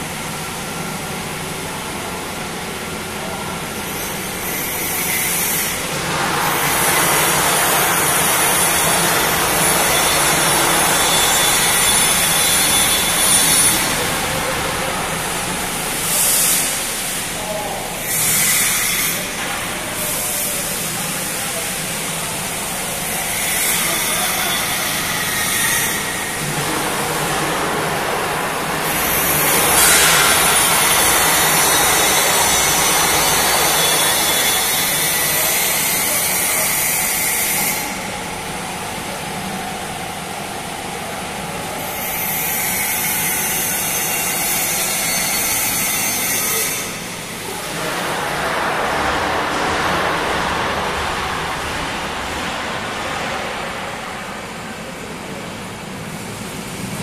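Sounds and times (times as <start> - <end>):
loud machine hiss: 3.0 - 55.0.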